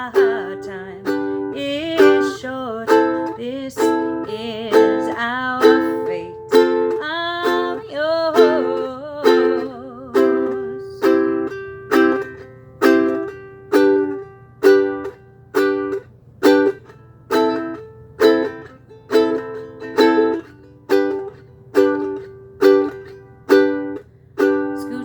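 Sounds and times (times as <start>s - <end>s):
ukulele strumming chords: 0.0s - 25.0s.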